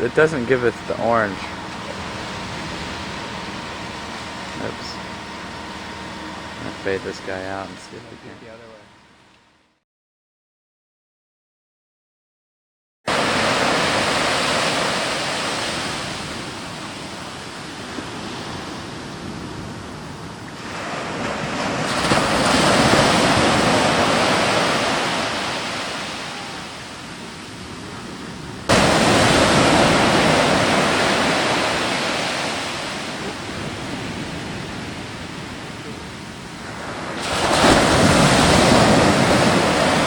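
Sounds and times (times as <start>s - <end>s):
steady rushing outdoor noise: 0.0s - 9.1s, 13.1s - 40.0s.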